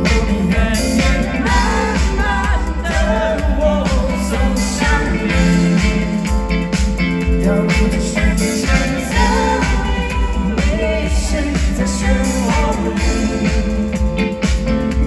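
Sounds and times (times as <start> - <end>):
live pop-rock band: 0.0 - 15.0
person singing: 0.0 - 15.0.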